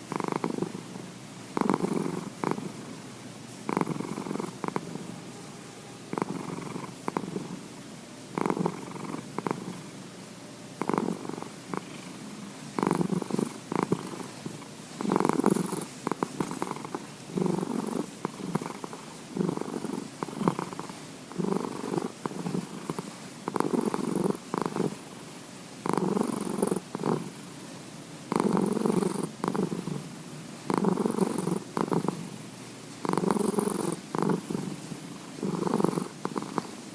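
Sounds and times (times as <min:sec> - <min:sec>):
cat purring: 0:00.0 - 0:03.0, 0:03.6 - 0:05.3, 0:06.1 - 0:10.0, 0:10.8 - 0:27.6, 0:28.3 - 0:32.4, 0:33.0 - 0:36.9.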